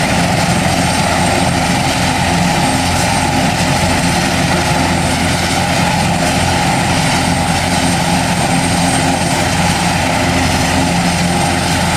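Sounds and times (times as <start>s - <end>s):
helicopter engines and rotor: 0.0s - 11.9s.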